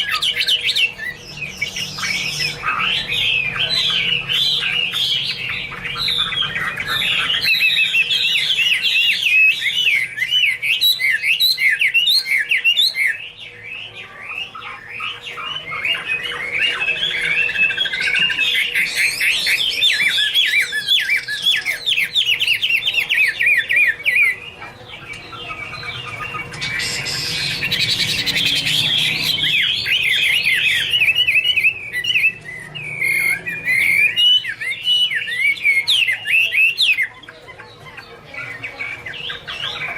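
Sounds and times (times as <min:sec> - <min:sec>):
bird singing whistled phrases: 0:00.0 - 0:24.4, 0:25.3 - 0:37.2.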